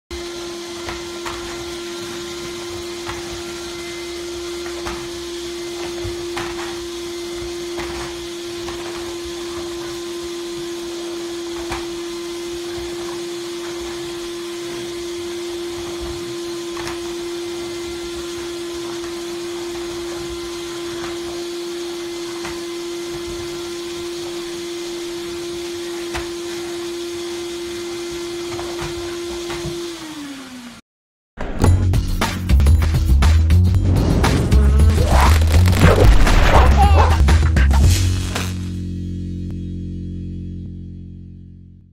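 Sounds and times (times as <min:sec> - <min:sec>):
vacuum cleaner running: 0:00.1 - 0:30.8, 0:33.7 - 0:38.9.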